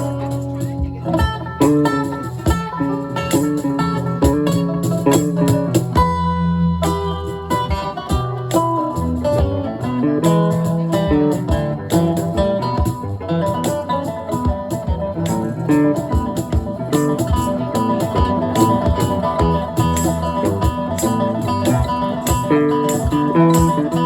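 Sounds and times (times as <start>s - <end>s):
live band playing guitar-led music: 0.0s - 24.0s.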